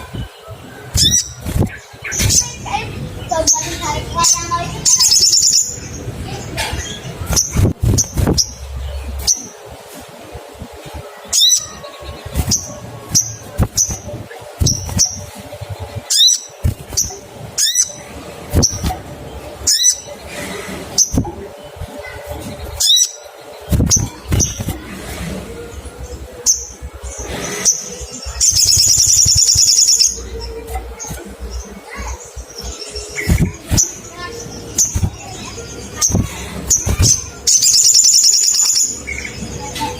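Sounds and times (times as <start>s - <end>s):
bird sharp chirping calls: 0.0s - 9.6s, 11.2s - 24.8s, 26.1s - 39.9s.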